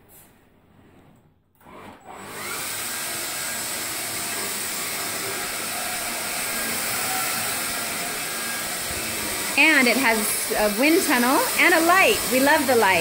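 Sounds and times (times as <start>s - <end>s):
vacuum cleaner running: 1.6s - 13.0s.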